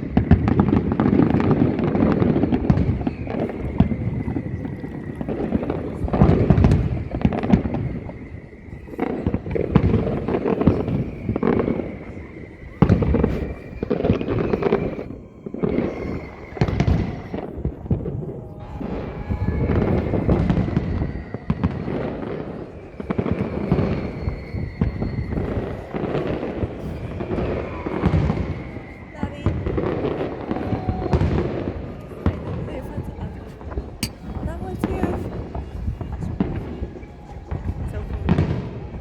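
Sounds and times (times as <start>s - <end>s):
fireworks bangs and booms: 0.0s - 33.1s.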